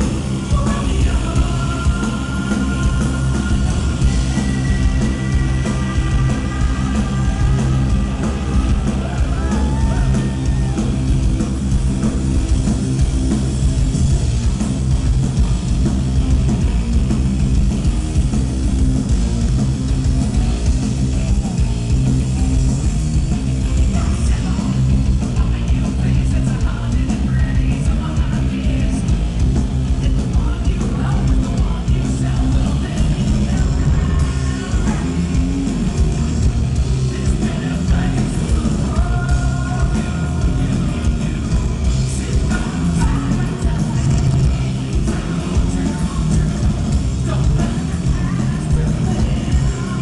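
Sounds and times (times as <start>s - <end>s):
bass: 0.0s - 50.0s
distorted electric guitars: 0.0s - 50.0s
drums: 0.0s - 50.0s.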